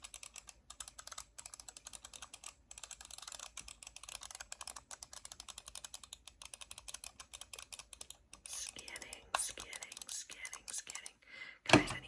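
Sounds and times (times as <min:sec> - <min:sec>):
fast typing on computer keyboard: 0:00.0 - 0:11.1.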